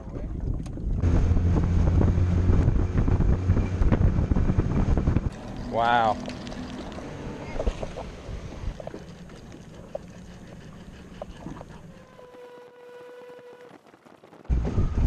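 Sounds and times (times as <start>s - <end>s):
choppy water: 0.0s - 15.0s
wind rumbling on microphone: 0.0s - 15.0s.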